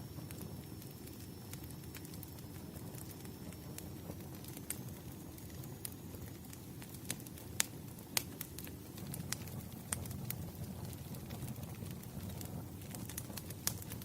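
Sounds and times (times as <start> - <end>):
fire low rumble: 0.0 - 14.0
logs crackling and popping: 0.0 - 14.0.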